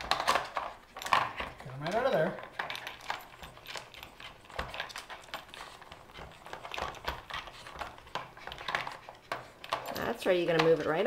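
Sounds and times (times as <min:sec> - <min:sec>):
plastic puzzle pieces clicking: 0:00.0 - 0:11.0.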